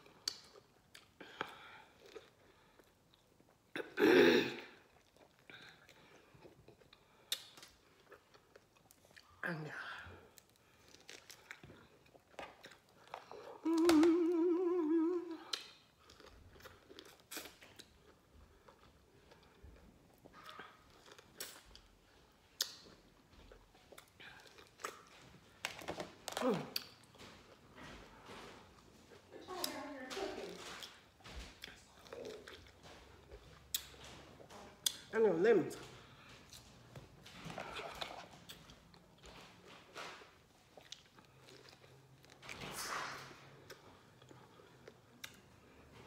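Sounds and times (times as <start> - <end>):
person eating lemon: 0.0 - 4.0, 4.6 - 29.7, 30.5 - 46.0
wet chewing and sucking: 4.8 - 9.4, 10.2 - 29.8, 30.5 - 35.1, 35.9 - 46.0.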